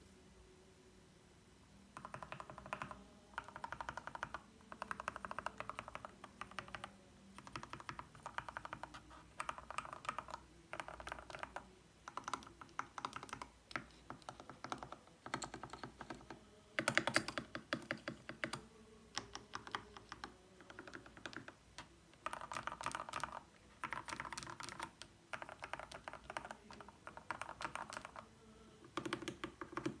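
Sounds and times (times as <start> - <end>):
mechanical keyboard typing: 2.0 - 30.0.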